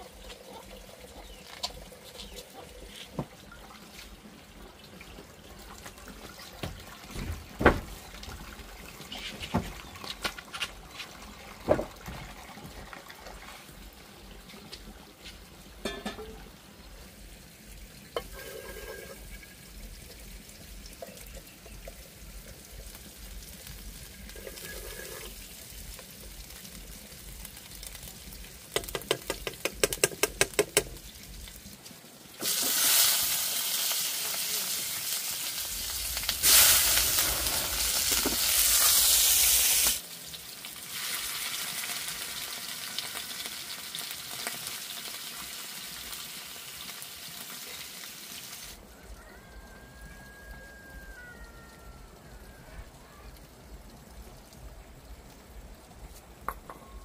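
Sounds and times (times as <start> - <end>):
food sizzling in a pan: 7.8 - 57.0.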